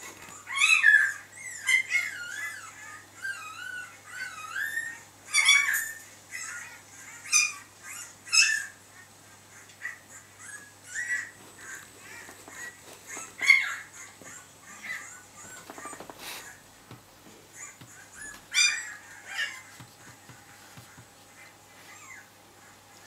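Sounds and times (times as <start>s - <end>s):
dogs whimpering: 0.0s - 16.7s, 17.4s - 23.0s.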